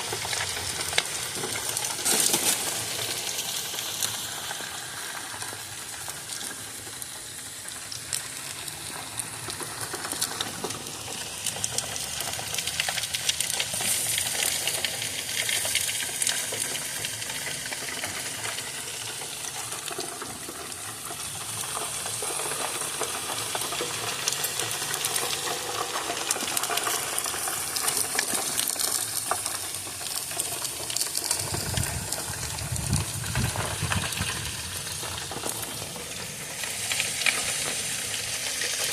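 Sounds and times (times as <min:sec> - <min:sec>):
meat sizzling on a grill: 0:00.0 - 0:38.9.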